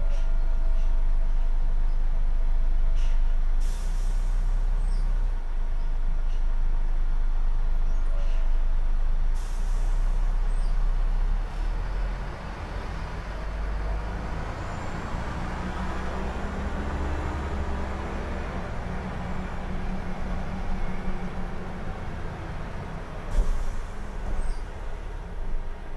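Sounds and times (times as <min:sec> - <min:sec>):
bus diesel engine: 0:00.0 - 0:25.9
road noise: 0:00.0 - 0:25.9.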